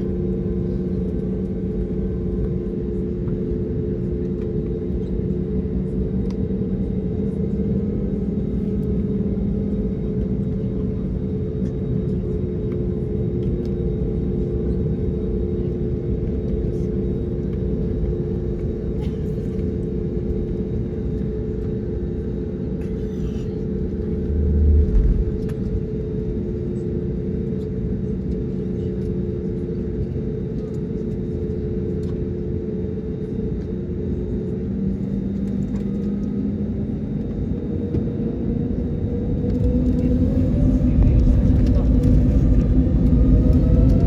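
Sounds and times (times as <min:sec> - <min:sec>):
jet engines droning: 0:00.0 - 0:44.0.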